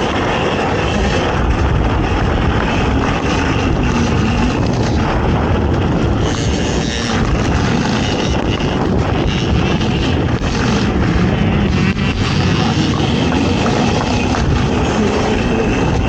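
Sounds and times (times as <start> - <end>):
atv engine running hard: 0.0 - 16.0
wind rushing over microphone: 0.0 - 16.0.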